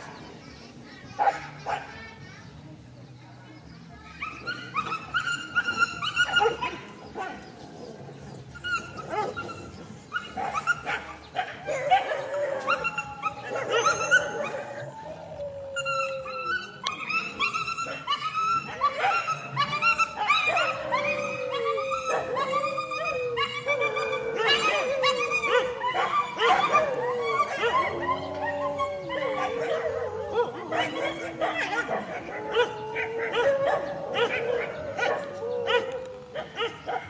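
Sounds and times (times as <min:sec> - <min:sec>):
dogs yelping and barking: 0:04.2 - 0:37.0.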